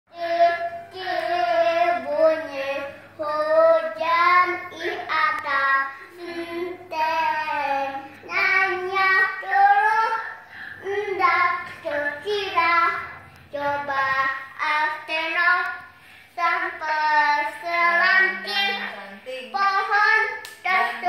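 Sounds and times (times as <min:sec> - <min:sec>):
girl singing unaccompanied: 0:00.1 - 0:21.0.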